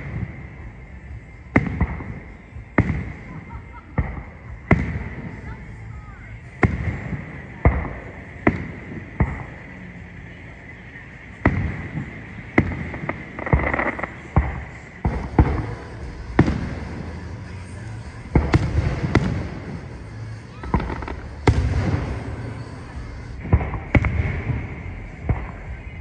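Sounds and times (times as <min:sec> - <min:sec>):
firework shells booming: 0:00.0 - 0:05.5, 0:06.5 - 0:09.8, 0:11.3 - 0:26.0
fireworks crackling: 0:00.0 - 0:26.0.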